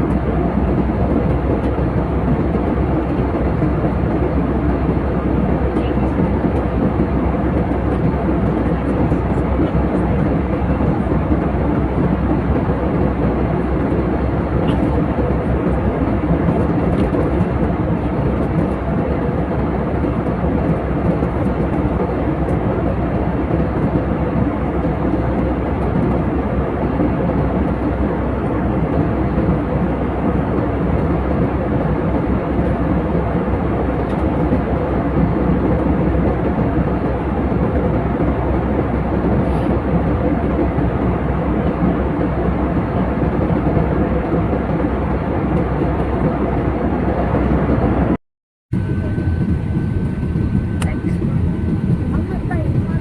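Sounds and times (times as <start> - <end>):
jet engine roar in cabin: 0.0 - 53.0.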